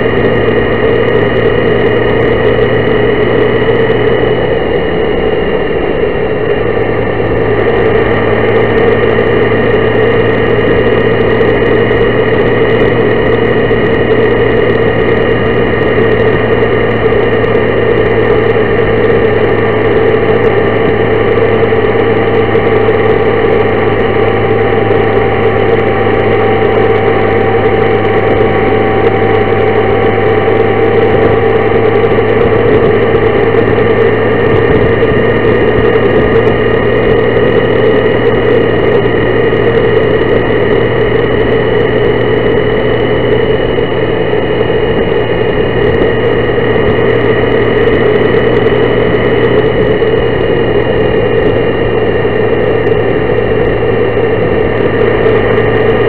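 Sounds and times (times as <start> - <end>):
motorcycle engine drone: 0.0 - 56.0
road and wind noise: 0.0 - 56.0.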